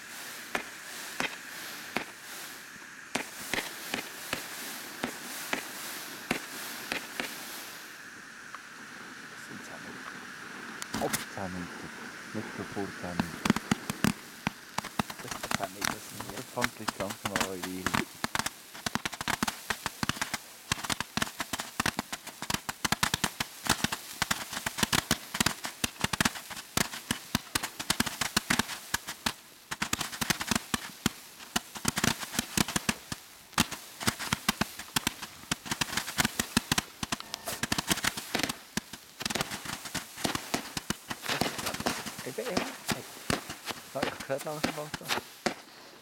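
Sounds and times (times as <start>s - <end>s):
fireworks cracking and popping: 0.0s - 8.7s, 10.7s - 46.0s.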